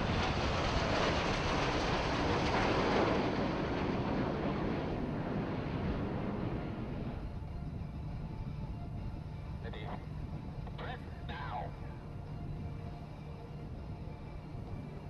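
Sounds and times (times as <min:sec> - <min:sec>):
jet aircraft passing overhead: 0:00.0 - 0:15.0.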